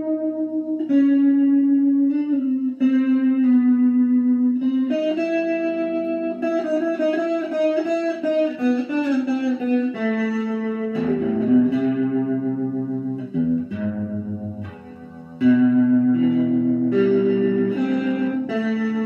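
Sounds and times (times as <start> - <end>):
electric guitar solo: 0.0 - 19.0.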